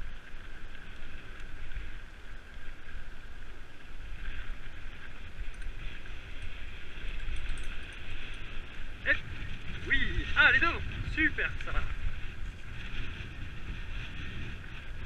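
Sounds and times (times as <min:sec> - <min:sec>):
bike tyres rumbling on dirt: 0:00.0 - 0:15.0
wind buffeting microphone: 0:00.0 - 0:15.0.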